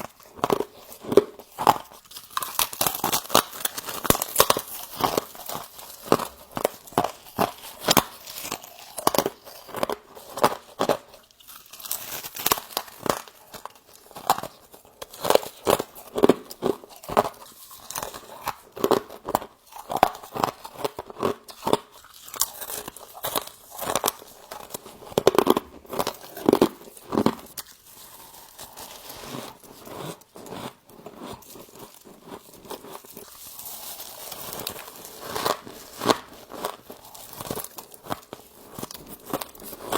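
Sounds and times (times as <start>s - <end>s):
person chewing crunchy frost: 0.0s - 39.9s.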